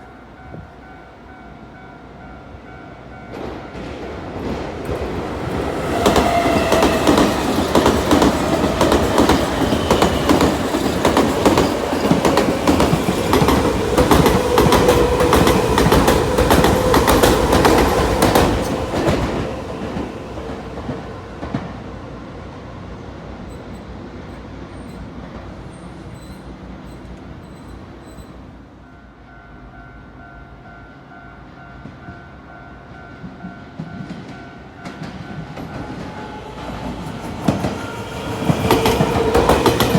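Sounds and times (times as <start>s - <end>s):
electric train passing: 0.0s - 39.9s.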